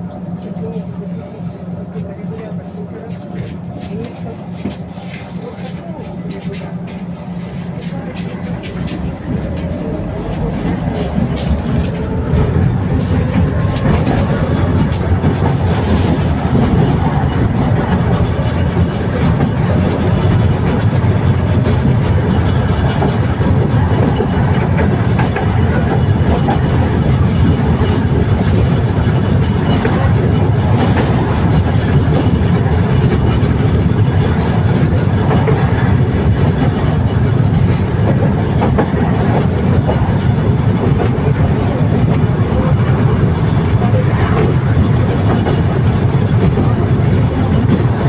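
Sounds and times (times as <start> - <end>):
tram wheels rumbling on rails: 0.0 - 48.0.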